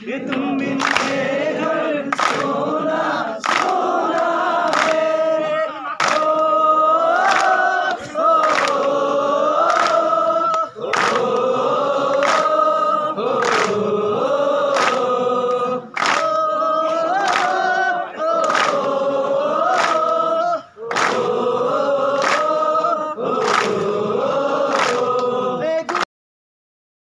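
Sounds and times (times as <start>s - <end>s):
men singing in unison: 0.0s - 26.1s.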